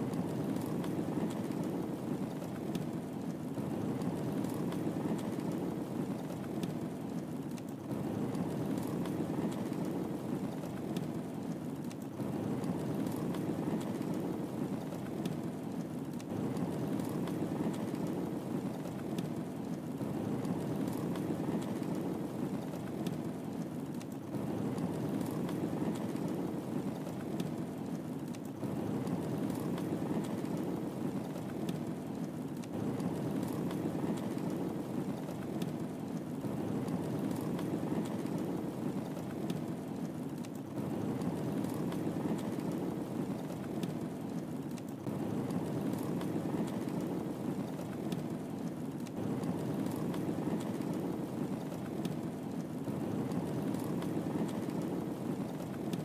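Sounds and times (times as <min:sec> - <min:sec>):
fire crackles and pops: 0:00.0 - 0:56.0
fire rumbling in fireplace: 0:00.0 - 0:56.0.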